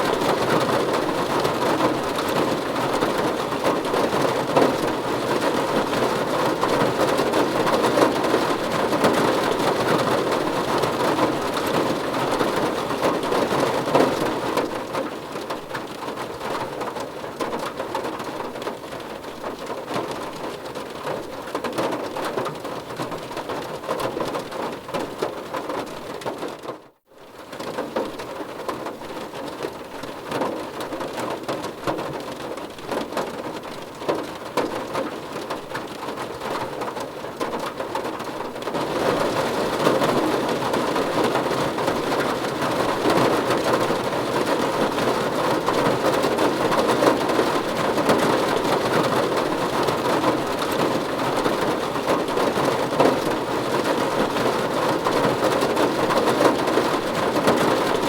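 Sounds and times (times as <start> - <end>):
rain pattering on a car roof: 0.0 - 58.0.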